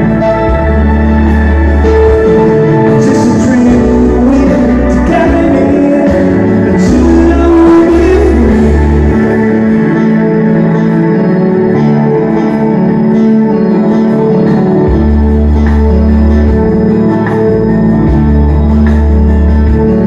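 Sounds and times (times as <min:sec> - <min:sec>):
keyboard playing soft-rock ballad: 0:00.0 - 0:20.0.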